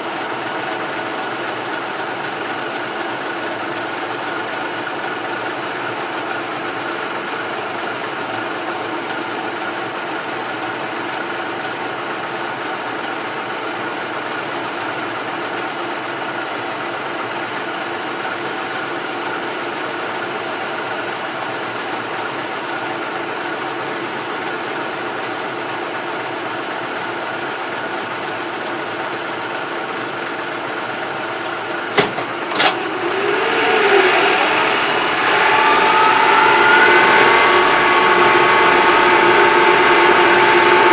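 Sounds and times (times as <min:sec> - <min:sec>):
tractor diesel engine: 0:00.0 - 0:40.9.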